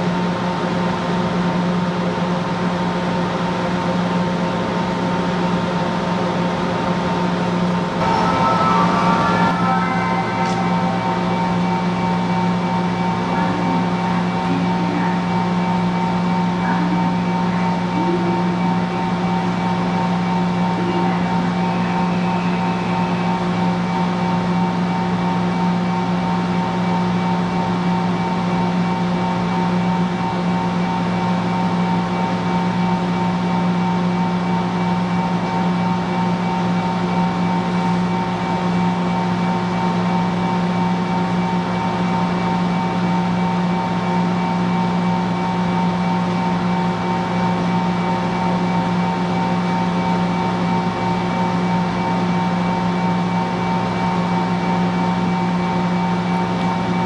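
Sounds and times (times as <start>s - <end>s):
electric train equipment humming: 8.0s - 57.0s.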